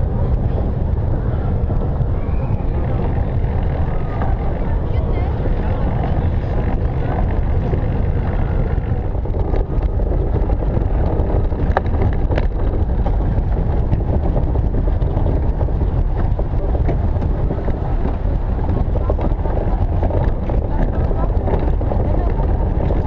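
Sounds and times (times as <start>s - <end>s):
road and wind rumble: 0.0s - 23.0s.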